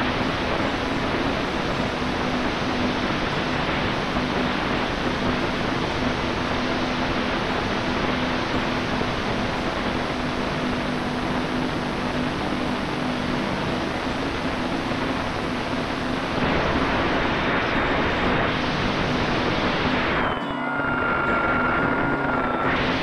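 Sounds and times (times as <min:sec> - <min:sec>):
electric motor and propeller hum: 0:00.0 - 0:20.4
wind rushing over microphone: 0:00.0 - 0:23.0.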